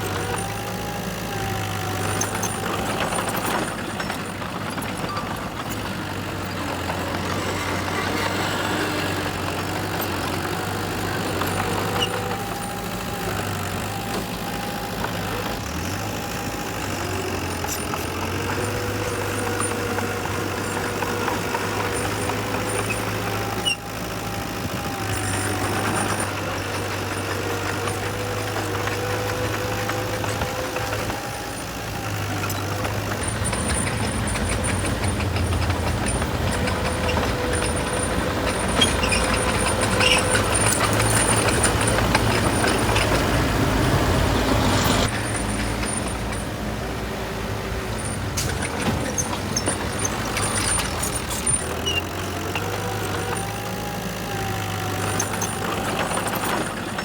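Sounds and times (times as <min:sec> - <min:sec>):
diesel machinery engine hum: 0:00.0 - 0:57.0.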